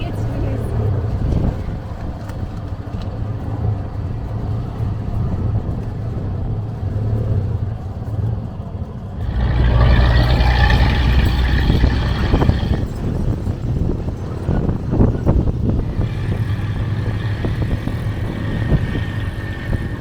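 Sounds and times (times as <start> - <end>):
auto-rickshaw engine rumbling: 0.0 - 20.0.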